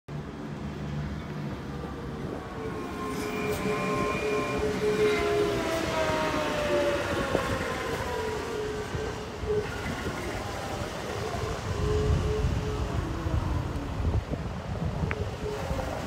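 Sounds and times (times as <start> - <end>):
passing vehicle whine: 0.1 - 16.0.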